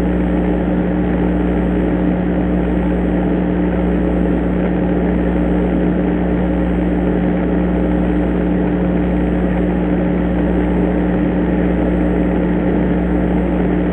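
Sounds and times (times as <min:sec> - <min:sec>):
low electrical hum: 0:00.0 - 0:13.9.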